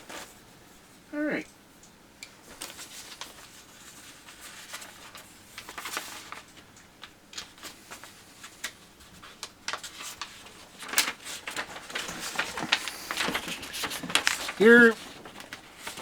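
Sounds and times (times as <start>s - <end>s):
packaging and paper rustling: 2.4s - 16.0s.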